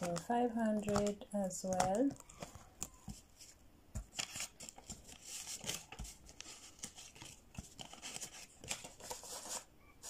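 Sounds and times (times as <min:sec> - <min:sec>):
banknotes and plastic pockets rustling: 0:00.0 - 0:09.7.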